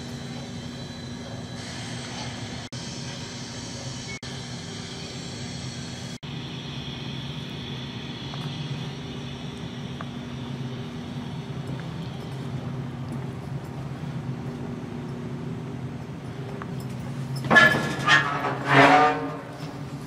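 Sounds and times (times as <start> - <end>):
ventilation hum and hiss: 0.0 - 20.0.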